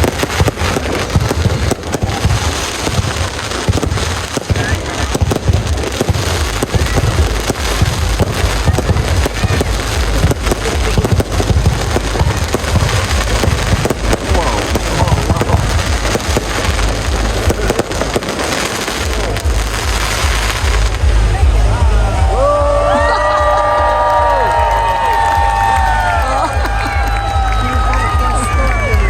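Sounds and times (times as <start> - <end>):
fireworks cracking and booming: 0.0 - 29.0.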